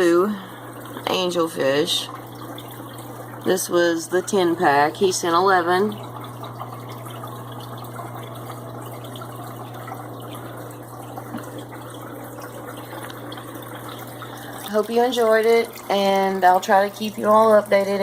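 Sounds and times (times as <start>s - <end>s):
aquarium water trickling: 0.0s - 18.0s.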